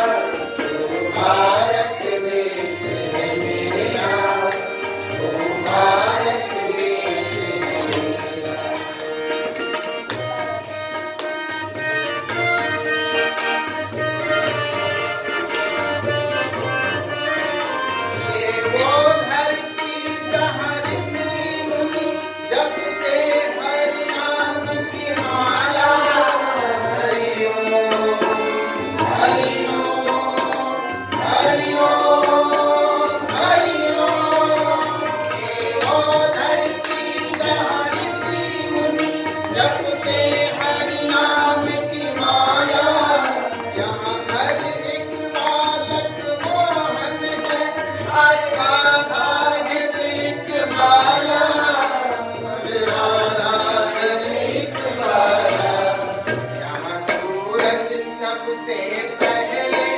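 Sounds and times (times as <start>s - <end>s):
tabla rhythm: 0.0s - 59.9s.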